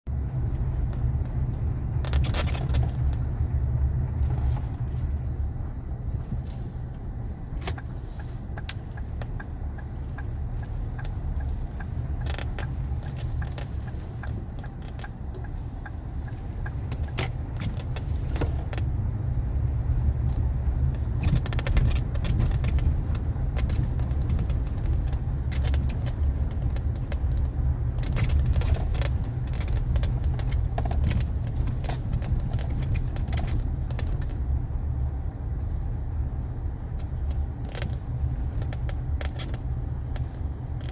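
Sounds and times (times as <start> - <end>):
low rumble of moving car: 0.0 - 40.9
car interior creaks and clicks: 0.4 - 40.9.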